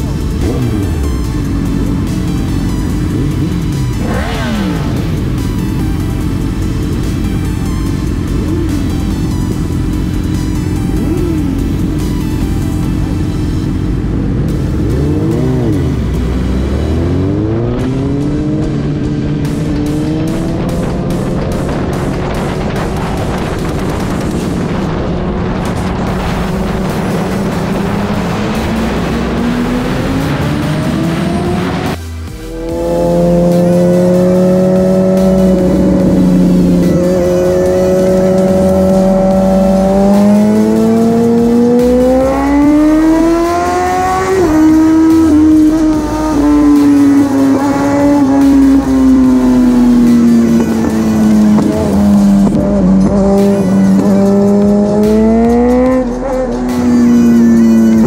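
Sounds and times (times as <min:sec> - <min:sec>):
motorcycle engine revving: 0:00.0 - 0:58.0
music: 0:00.0 - 0:58.0.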